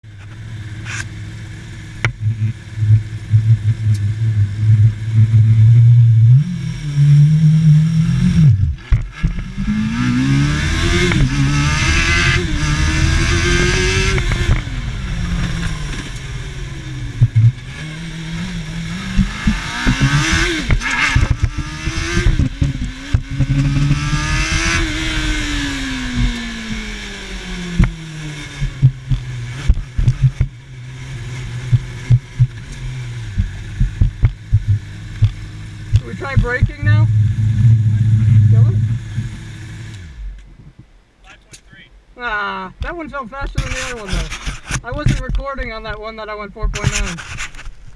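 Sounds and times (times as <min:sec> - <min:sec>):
race car engine accelerating: 0:00.0 - 0:40.4.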